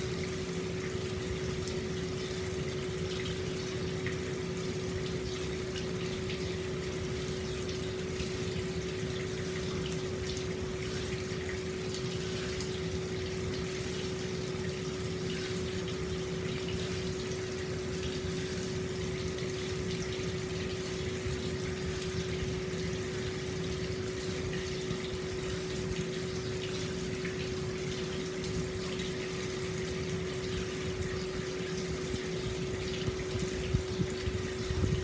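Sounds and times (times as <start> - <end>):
steady hum: 0.0 - 35.0
water pouring into bath: 0.0 - 35.0.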